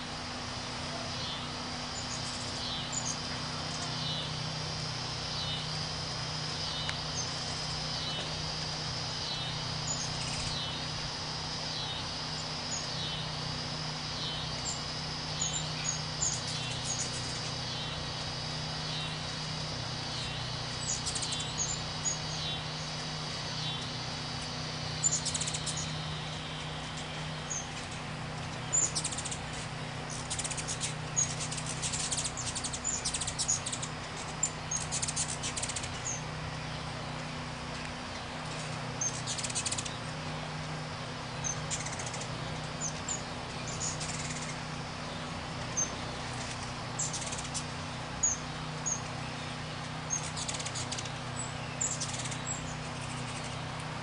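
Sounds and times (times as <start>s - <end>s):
constant low hum: 0.0s - 54.0s
hummingbird chip notes: 0.0s - 54.0s.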